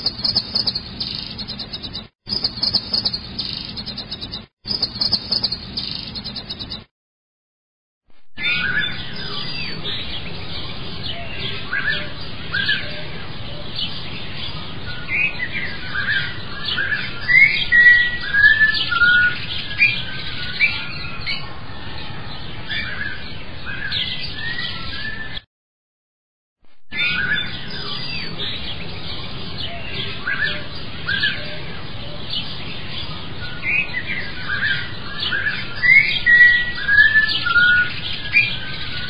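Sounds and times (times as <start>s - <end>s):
songbirds chirping: 0.0s - 6.9s, 8.4s - 25.4s, 27.0s - 39.0s.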